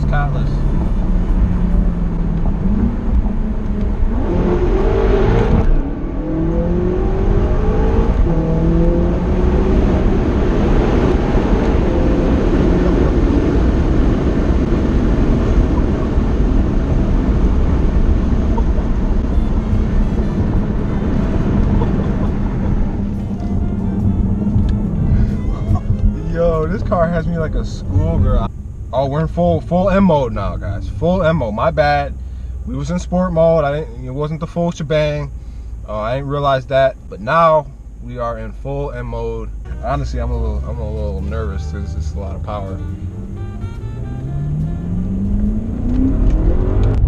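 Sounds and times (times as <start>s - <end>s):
car engine accelerating: 0.0s - 47.0s
heavy road roar: 0.0s - 47.0s.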